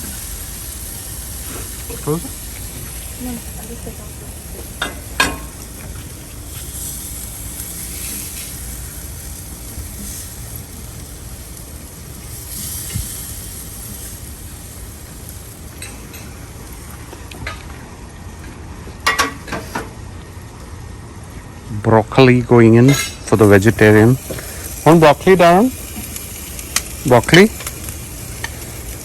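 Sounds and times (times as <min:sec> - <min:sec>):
sausages sizzling on a grill: 0:00.0 - 0:29.0.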